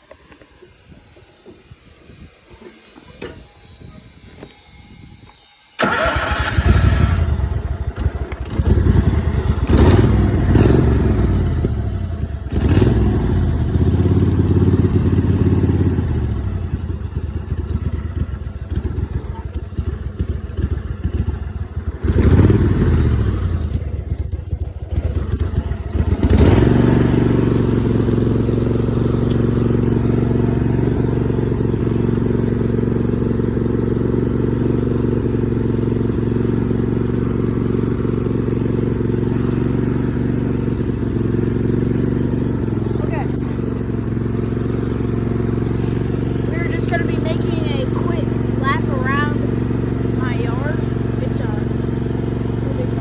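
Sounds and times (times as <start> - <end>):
tractor engine starting and revving: 5.2 - 53.0.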